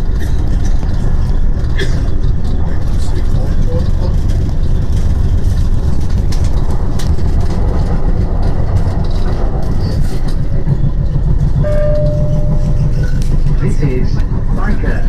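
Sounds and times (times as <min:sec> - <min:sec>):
train low rumble: 0:00.0 - 0:15.0
wheels clicking on rails: 0:00.0 - 0:15.0.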